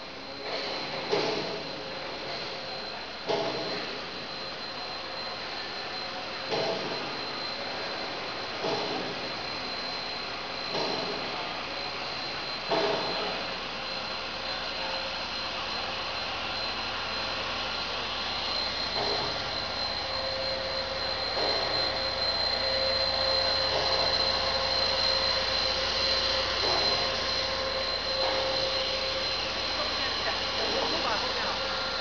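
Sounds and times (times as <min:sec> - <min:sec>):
low machine tone: 0:00.0 - 0:32.0
pipe extrusion machine whining: 0:00.0 - 0:32.0.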